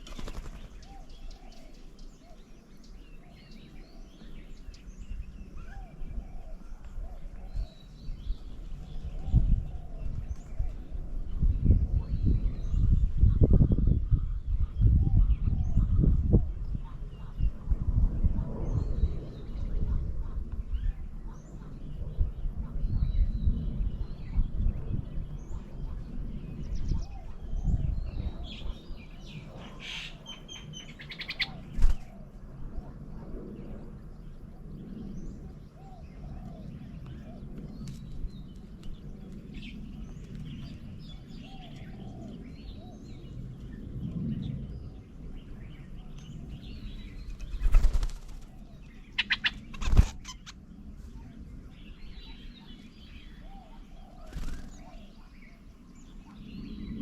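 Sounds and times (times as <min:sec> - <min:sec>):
birds chirping and calling: 0:00.0 - 0:57.0.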